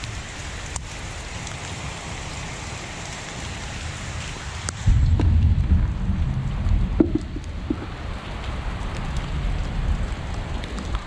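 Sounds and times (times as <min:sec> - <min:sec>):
rain falling on running water: 0:00.0 - 0:11.0.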